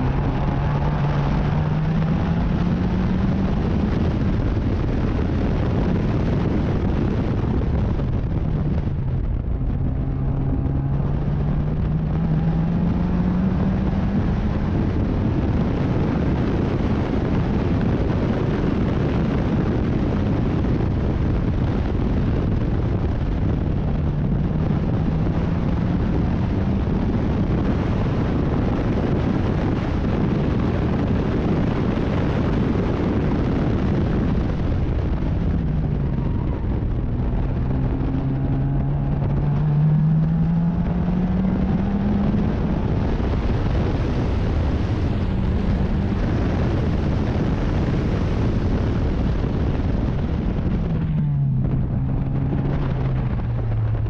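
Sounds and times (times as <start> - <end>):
sports car engine running hard: 0.0 - 54.0
wind and road noise: 0.0 - 54.0.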